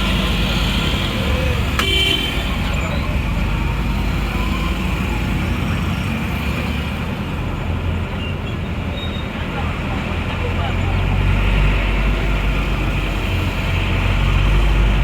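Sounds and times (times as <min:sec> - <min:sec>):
tyres on road: 0:00.0 - 0:15.0
vehicle engines: 0:00.0 - 0:15.0.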